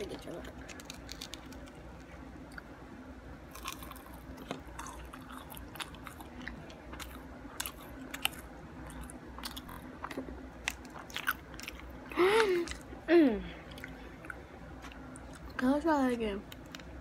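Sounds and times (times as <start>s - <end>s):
crunchy chewing: 0.2s - 2.7s, 3.5s - 12.9s, 13.6s - 15.6s.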